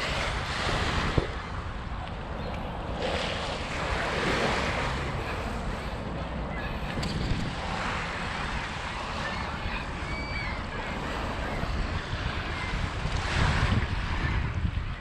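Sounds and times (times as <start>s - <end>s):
small waves on beach: 0.0s - 15.0s
wind buffeting microphone: 0.0s - 15.0s.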